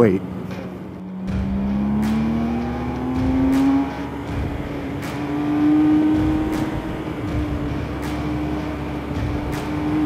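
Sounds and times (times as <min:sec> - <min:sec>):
motorcycle engine accelerating: 0:00.9 - 0:10.0.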